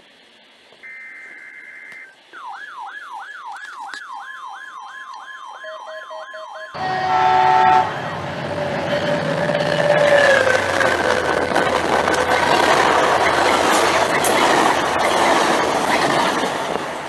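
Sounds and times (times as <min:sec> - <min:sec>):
rushing noise with steady tones: 0:00.0 - 0:17.0
electronic siren yelping: 0:00.8 - 0:16.5
alternating high data tones: 0:00.8 - 0:17.0.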